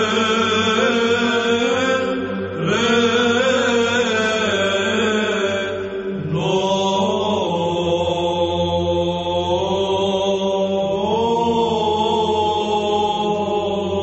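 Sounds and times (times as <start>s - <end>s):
low held vocal drone: 0.0s - 14.0s
melodic vocal chant: 0.0s - 14.0s.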